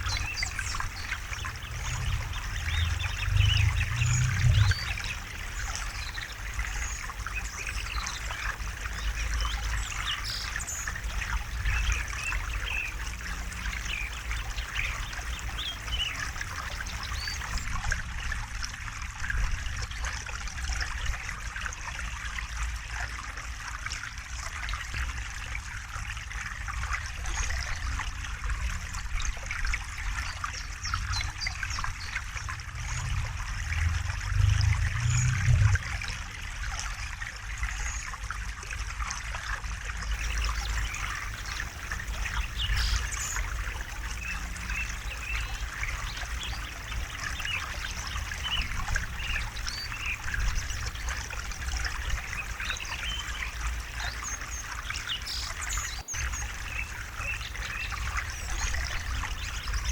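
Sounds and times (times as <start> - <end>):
river water flowing: 0.0 - 27.0, 29.4 - 59.9.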